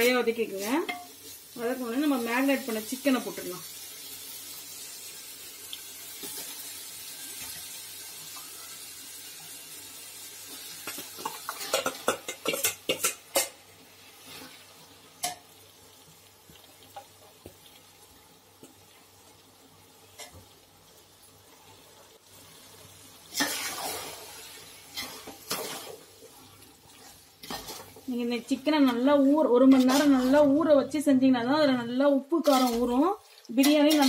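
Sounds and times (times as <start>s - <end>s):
food sizzling in metal pot: 0.0s - 34.0s.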